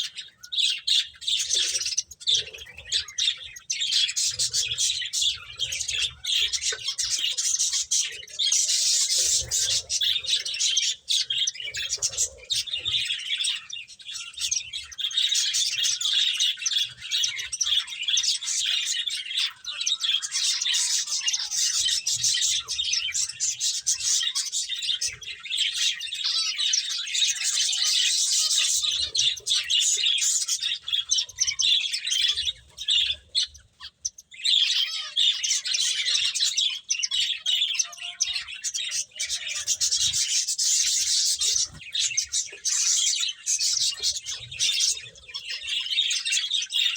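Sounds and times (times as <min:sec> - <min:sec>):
finches chirping: 0:00.0 - 0:46.9.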